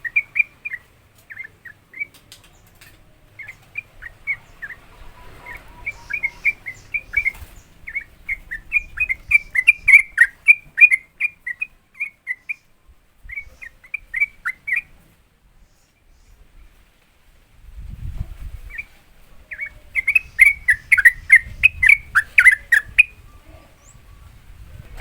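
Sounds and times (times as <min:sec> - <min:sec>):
bird chirping song: 0:00.0 - 0:16.8, 0:18.5 - 0:25.0.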